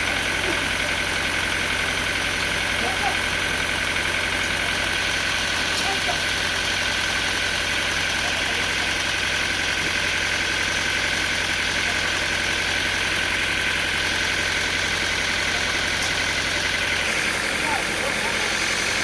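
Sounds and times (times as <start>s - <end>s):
sawmill engine drone: 0.0s - 19.0s.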